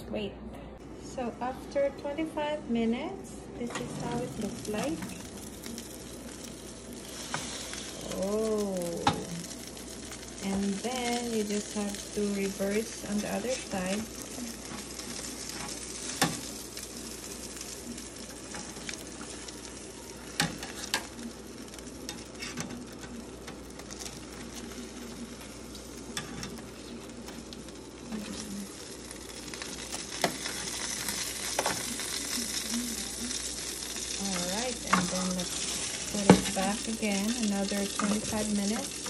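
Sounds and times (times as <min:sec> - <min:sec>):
chicken sizzling: 0:02.1 - 0:39.0.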